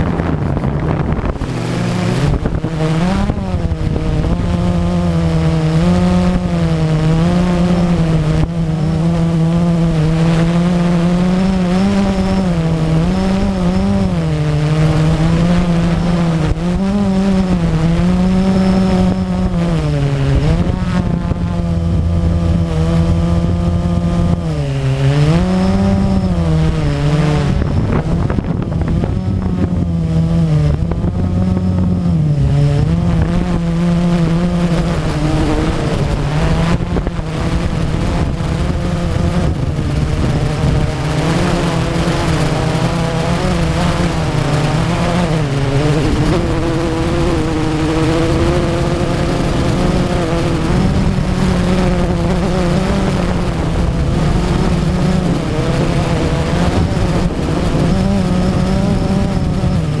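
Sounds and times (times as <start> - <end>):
drone propellers buzzing: 0.0 - 60.0.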